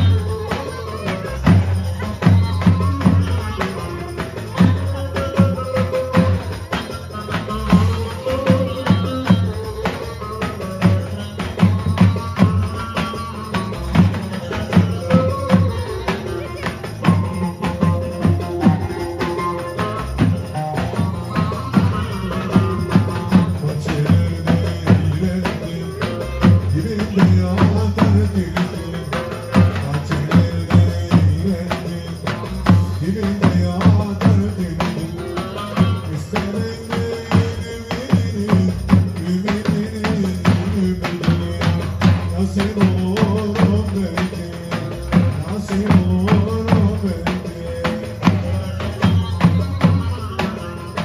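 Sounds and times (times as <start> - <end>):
wavering melody line: 0.0 - 37.9, 39.6 - 51.0
bass drum beating dance rhythm: 0.0 - 51.0
music: 0.0 - 51.0.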